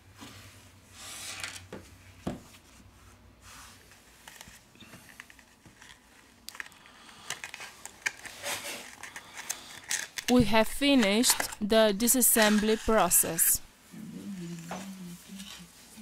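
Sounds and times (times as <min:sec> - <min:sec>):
rustling handling noises: 0:00.1 - 0:13.7.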